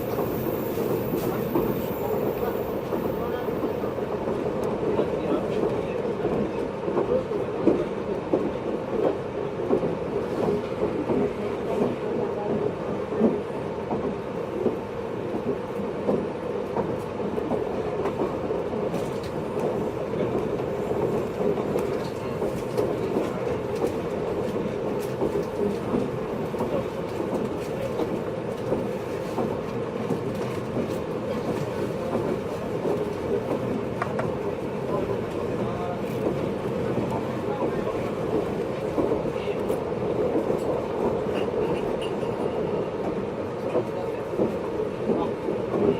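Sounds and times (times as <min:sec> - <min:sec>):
wheels rumbling on rail: 0:00.0 - 0:45.9.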